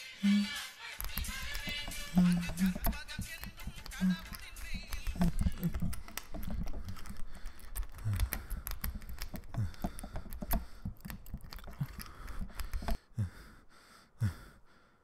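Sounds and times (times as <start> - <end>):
sharp clicks and ticks: 0.2 - 13.0.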